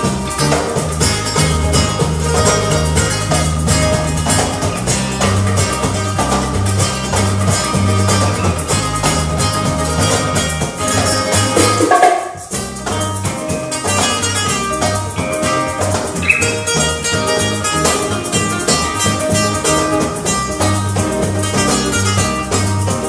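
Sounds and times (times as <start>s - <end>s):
acoustic guitars playing: 0.0s - 23.0s
cajon percussion: 0.0s - 23.0s
electric bass guitar: 0.0s - 23.0s.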